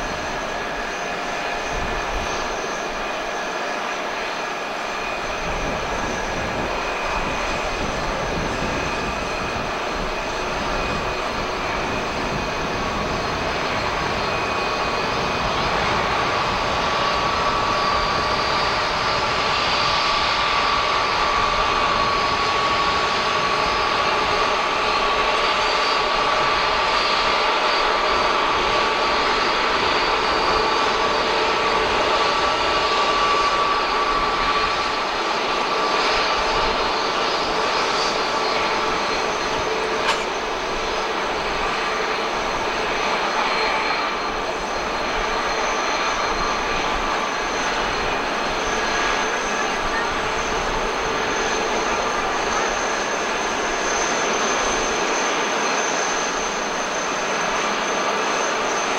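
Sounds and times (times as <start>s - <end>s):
jet engines running with whine: 0.0s - 58.9s.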